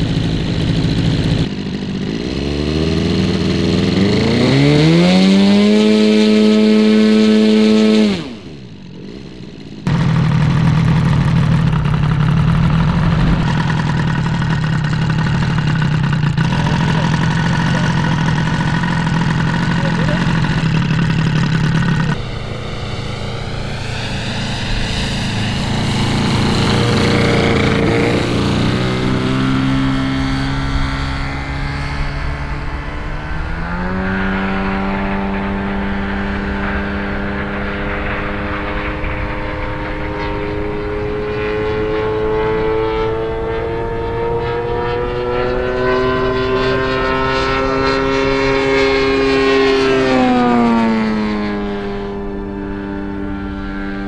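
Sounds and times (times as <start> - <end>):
model aircraft engine and propeller: 0.0 - 54.0.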